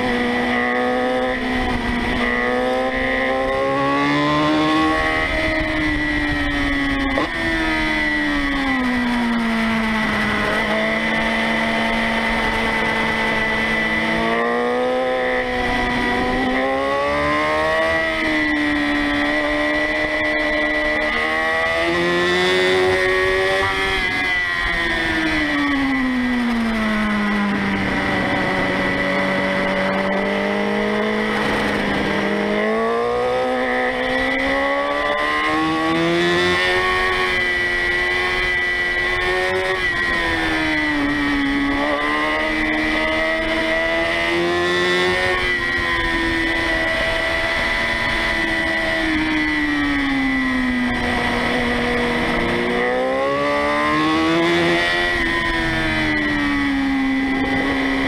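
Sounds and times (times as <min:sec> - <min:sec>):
motorcycle engine revving: 0:00.0 - 0:58.0
road noise: 0:00.0 - 0:58.0
steady high whine: 0:00.0 - 0:58.0
wind noise: 0:00.0 - 0:58.0.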